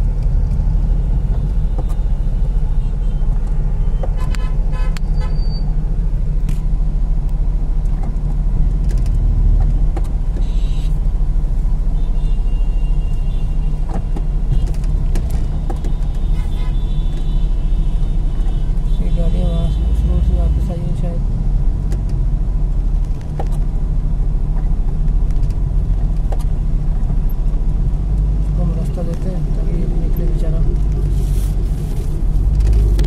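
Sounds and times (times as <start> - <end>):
traffic rumble and idling engines: 0.0 - 33.0.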